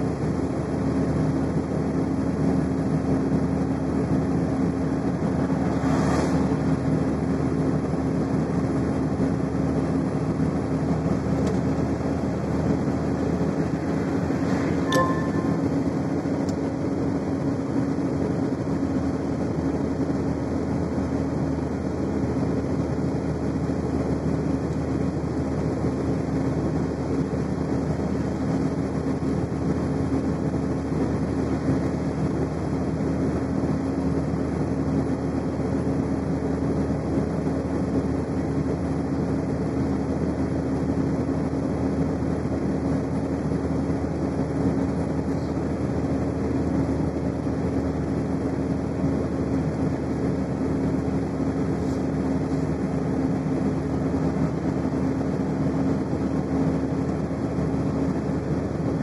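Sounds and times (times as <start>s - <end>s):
vehicle engine and tyre drone: 0.0s - 59.0s.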